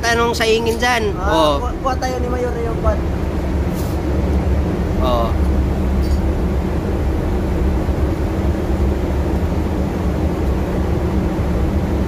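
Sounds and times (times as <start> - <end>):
oil burner blower rumbling: 0.0 - 12.0.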